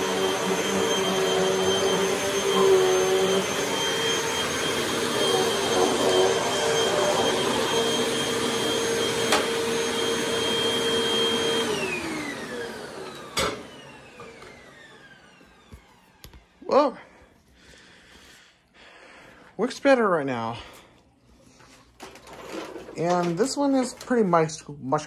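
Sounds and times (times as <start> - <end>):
vacuum cleaner whining: 0.0 - 17.8, 22.0 - 24.9.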